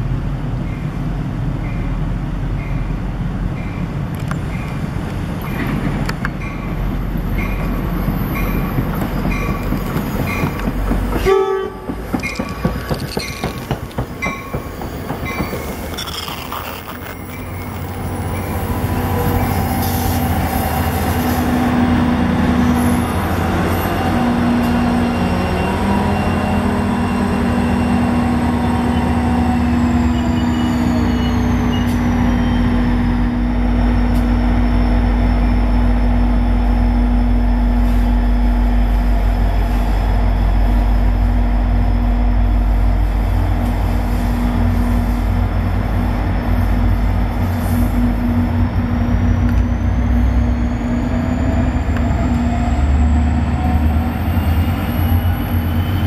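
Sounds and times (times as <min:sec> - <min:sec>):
diesel locomotive engine humming: 0:00.0 - 0:56.0
train wheels on rails: 0:00.5 - 0:56.0.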